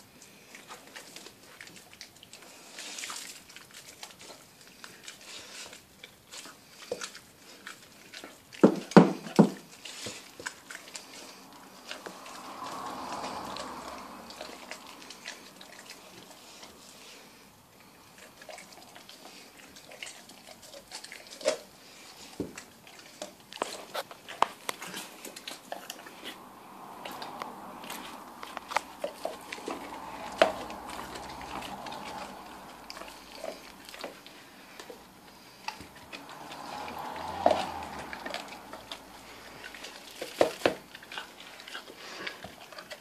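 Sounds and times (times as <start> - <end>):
dog chewing bone: 0.0 - 43.0.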